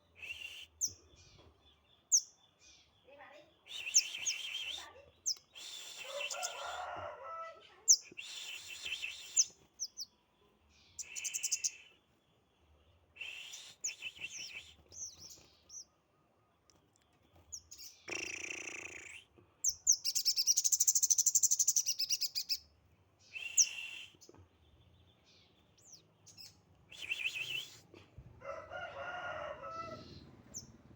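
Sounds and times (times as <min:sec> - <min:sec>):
songbird singing: 0:00.0 - 0:30.9.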